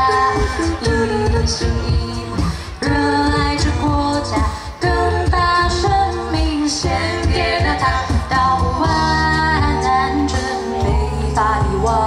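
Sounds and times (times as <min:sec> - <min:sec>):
a cappella group singing: 0:00.0 - 0:12.0
female voice singing: 0:00.0 - 0:12.0.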